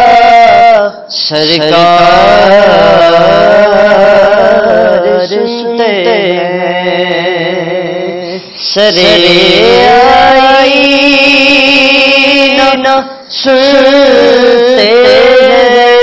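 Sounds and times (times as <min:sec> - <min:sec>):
man singing devotional poem: 0:00.0 - 0:16.0.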